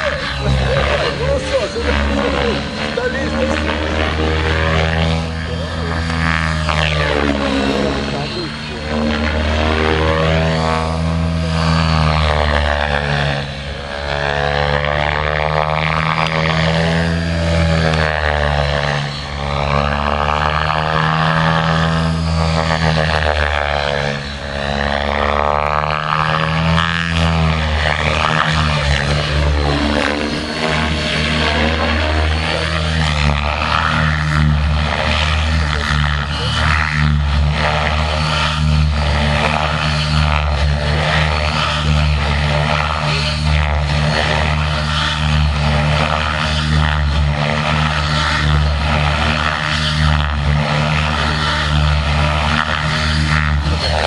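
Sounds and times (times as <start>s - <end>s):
rc helicopter rotor whirr: 0.0s - 54.0s.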